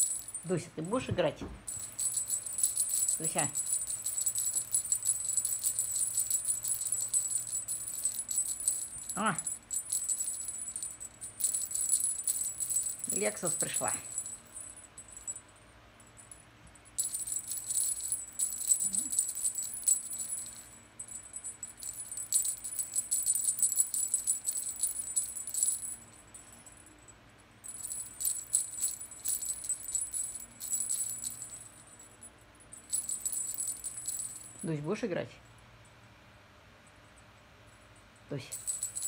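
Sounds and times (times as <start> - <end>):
cat toy beads jingling: 0.0 - 0.7, 1.7 - 15.4, 17.0 - 26.9, 27.6 - 34.7, 38.5 - 39.0.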